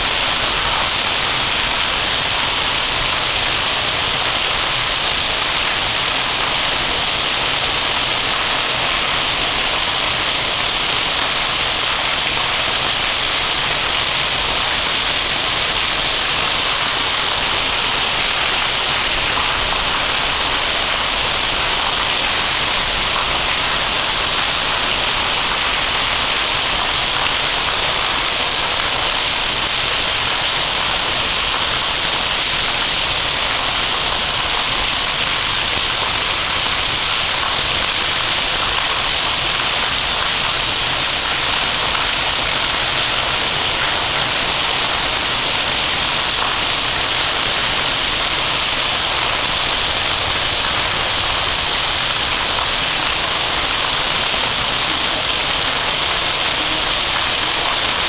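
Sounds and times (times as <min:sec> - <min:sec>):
heavy rain on roof and courtyard: 0:00.0 - 0:58.0
runoff water splashing on pavers: 0:00.0 - 0:58.0.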